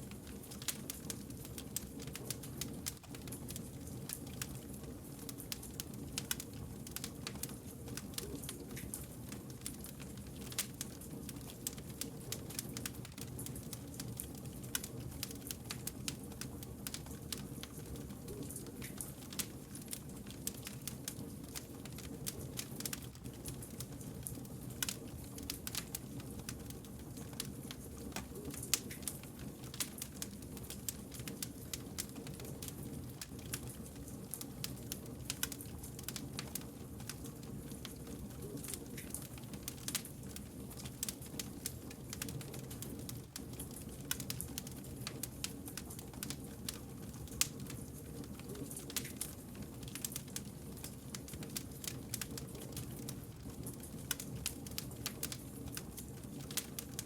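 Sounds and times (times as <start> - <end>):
campfire crackling: 0.0 - 57.0
low rumble of burning fire: 0.0 - 57.0.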